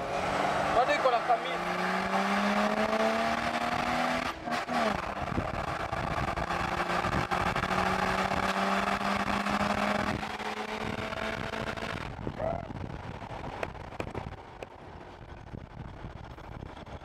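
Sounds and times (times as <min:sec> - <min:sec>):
buggy engine running: 0:00.0 - 0:17.0
wind and road noise: 0:00.0 - 0:17.0.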